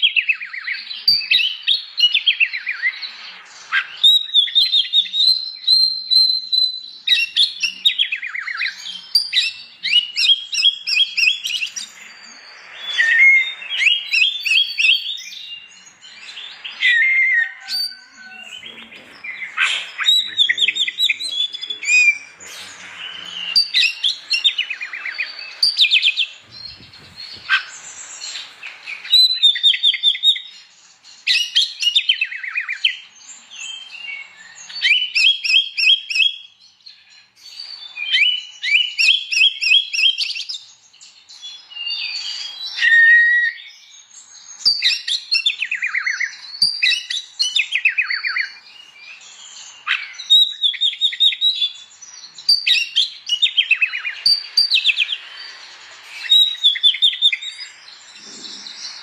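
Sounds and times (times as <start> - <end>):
bird singing whistled trilled phrases: 0.0 - 3.1, 3.7 - 27.8, 28.9 - 30.6, 31.2 - 40.7, 41.4 - 44.0, 44.6 - 57.8.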